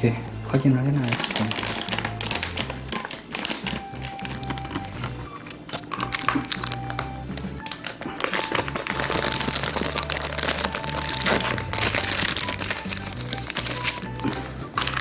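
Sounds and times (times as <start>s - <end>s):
plastic packaging crinkling: 0.9s - 15.0s.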